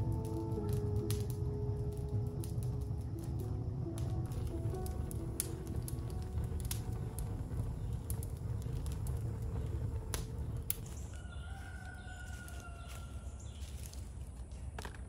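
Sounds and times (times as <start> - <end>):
low steady rumble: 0.0 - 14.5
wood fire crackling: 0.0 - 15.0.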